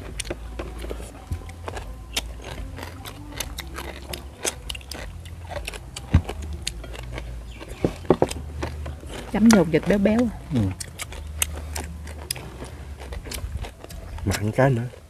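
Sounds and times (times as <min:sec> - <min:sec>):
people chewing crunchy food: 0:00.0 - 0:15.0.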